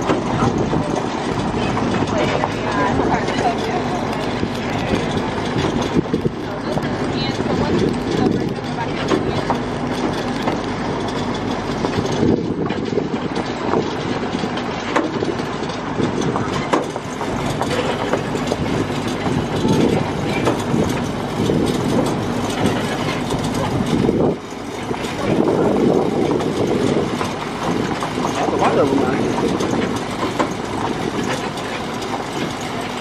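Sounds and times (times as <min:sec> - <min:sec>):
rattle and clatter of ride: 0:00.0 - 0:33.0
tractor engine running: 0:00.0 - 0:33.0.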